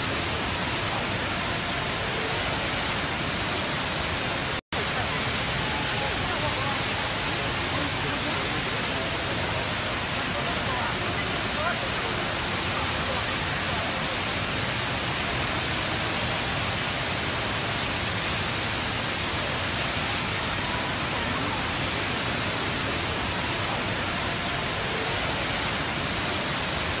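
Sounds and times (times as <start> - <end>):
indoor waterfall pouring: 0.0 - 27.0.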